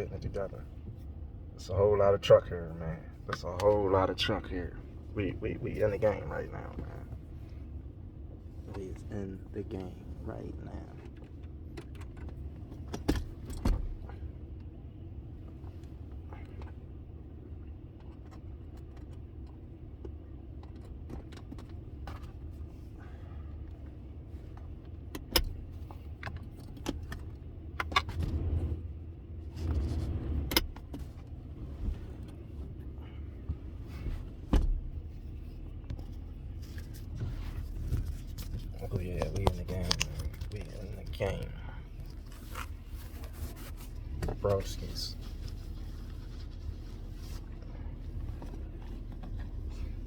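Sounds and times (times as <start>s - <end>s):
truck engine low rumble: 0.0s - 50.0s.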